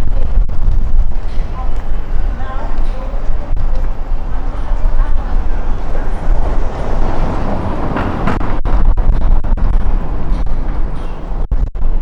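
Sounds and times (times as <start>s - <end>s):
gusty wind buffeting microphone: 0.0s - 12.0s
heavy low rumble: 0.0s - 12.0s
urban street background: 0.0s - 12.0s.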